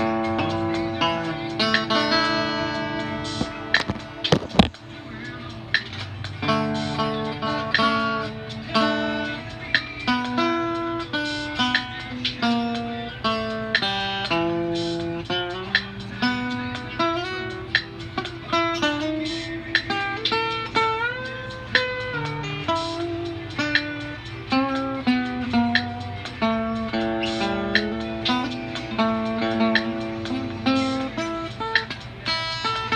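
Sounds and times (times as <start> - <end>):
plucked guitar melody: 0.0 - 32.9.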